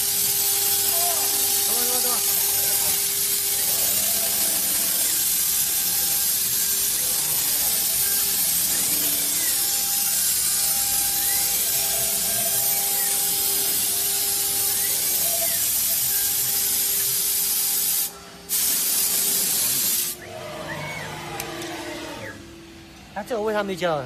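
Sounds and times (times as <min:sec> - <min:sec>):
machine hum with whine: 0:00.0 - 0:18.5, 0:19.4 - 0:23.5
router spindle cutting hiss: 0:00.0 - 0:20.3.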